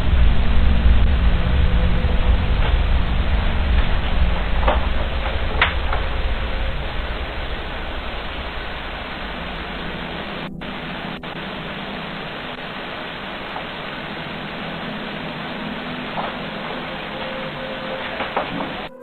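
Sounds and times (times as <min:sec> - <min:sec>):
faint low hum: 0:00.0 - 0:19.0
static hiss: 0:00.0 - 0:19.0.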